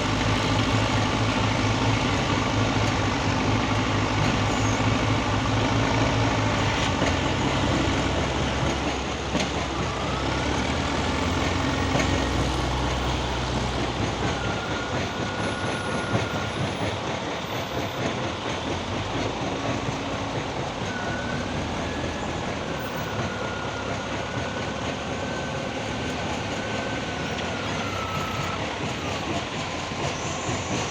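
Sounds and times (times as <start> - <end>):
heavy diesel machinery rushing: 0.0 - 30.9.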